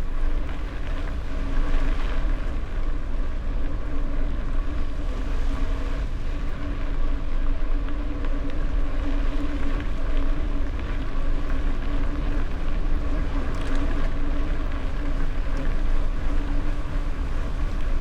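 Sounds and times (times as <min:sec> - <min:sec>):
bike rolling noise: 0:00.0 - 0:18.0
small rattles and ticks: 0:00.0 - 0:18.0
steady hum: 0:00.0 - 0:18.0
wind buffeting microphone: 0:00.0 - 0:18.0.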